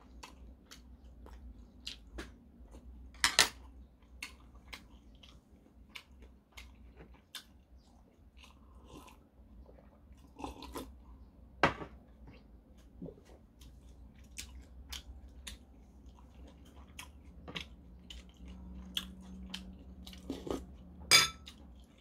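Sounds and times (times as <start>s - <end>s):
person chewing food: 0.0s - 11.3s, 12.0s - 22.0s.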